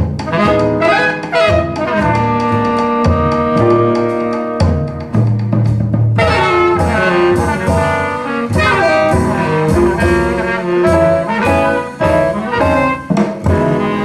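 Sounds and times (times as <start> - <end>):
jazz-blues band playing: 0.0 - 14.0.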